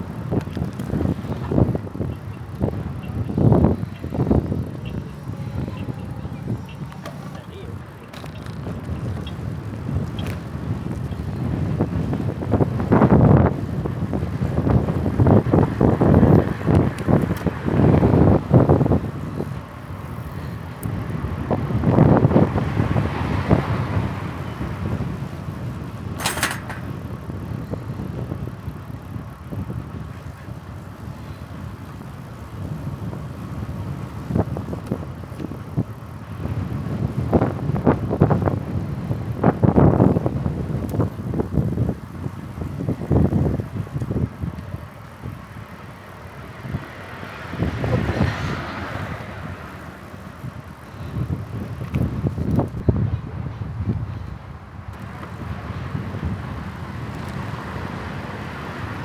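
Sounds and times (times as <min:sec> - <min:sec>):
bicycle tyre noise on path: 0:00.0 - 0:59.0
wind buffeting microphone: 0:00.0 - 0:59.0.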